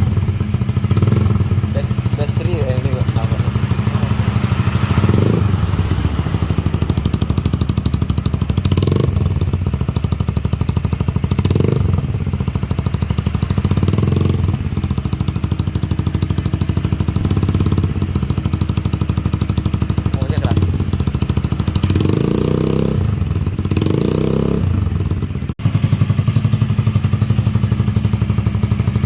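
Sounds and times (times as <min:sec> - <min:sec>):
scooter engine revving: 0:00.0 - 0:29.0.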